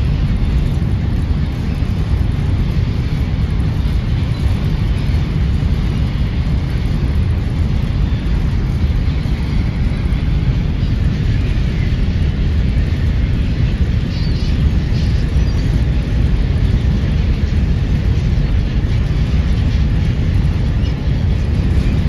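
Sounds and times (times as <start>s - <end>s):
low rumble with rushing noise: 0.0s - 22.0s.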